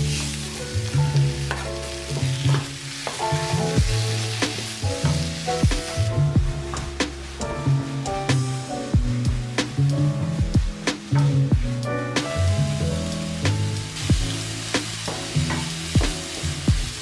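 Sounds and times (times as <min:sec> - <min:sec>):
background music with bass: 0:00.0 - 0:17.0
high hiss of sizzling or rain: 0:00.0 - 0:17.0.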